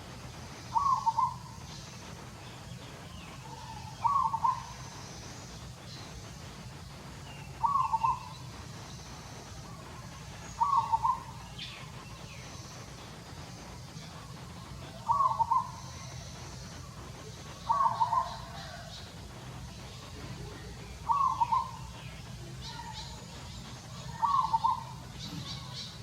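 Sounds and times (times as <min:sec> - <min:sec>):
bird calling: 0:00.0 - 0:06.5, 0:07.2 - 0:19.2, 0:19.8 - 0:26.0.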